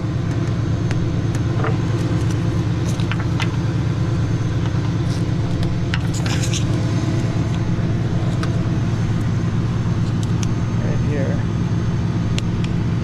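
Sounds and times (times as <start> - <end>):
tow truck engine idling: 0.0 - 13.0.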